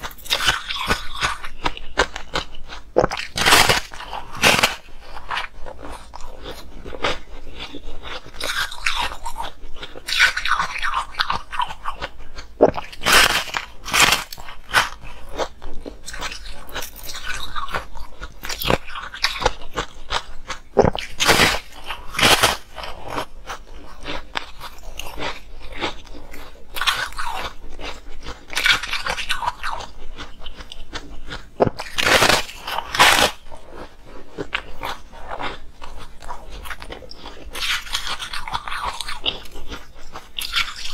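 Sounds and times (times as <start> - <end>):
crunching ice with teeth: 0.0 - 40.9.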